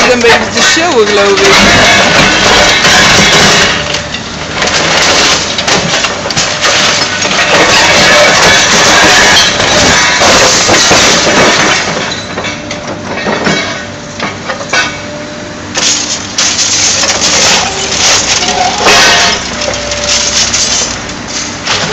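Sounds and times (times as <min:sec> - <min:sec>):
excavator demolishing a wall: 0:00.0 - 0:21.9
rubble and metal crashing: 0:00.0 - 0:21.9.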